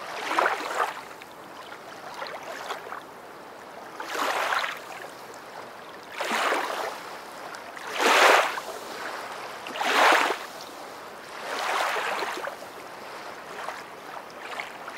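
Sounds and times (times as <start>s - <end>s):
small waves lapping: 0.0s - 14.9s.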